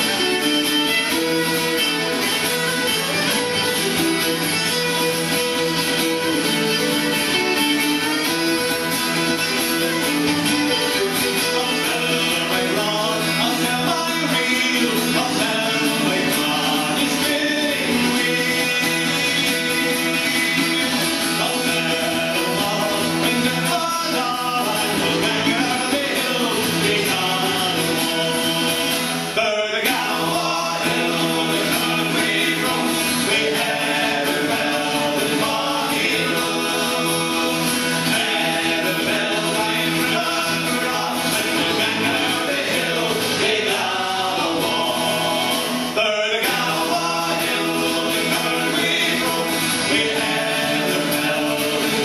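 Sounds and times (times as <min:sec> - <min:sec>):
strummed acoustic guitar: 0:00.0 - 0:52.0
strummed string instrument: 0:00.0 - 0:52.0
men singing in harmony: 0:04.1 - 0:52.0.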